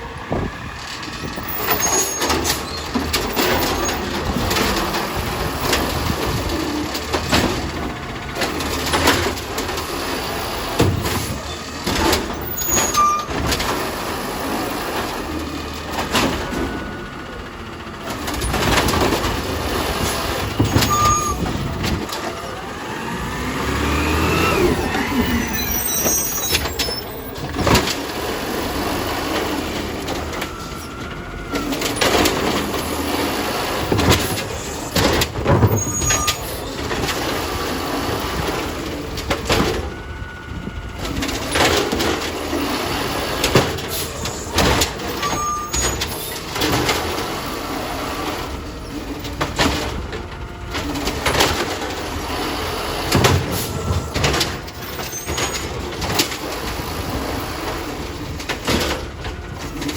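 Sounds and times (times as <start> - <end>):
garbage truck bangs: 0.0 - 59.9
garbage truck engine whining: 0.0 - 59.9.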